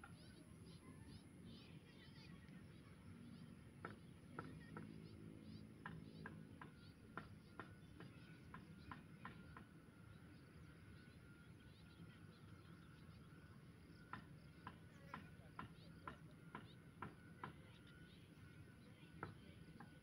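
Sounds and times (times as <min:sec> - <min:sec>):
faint bird chirps: 0:00.0 - 0:20.0
soft low background hum: 0:00.0 - 0:20.0.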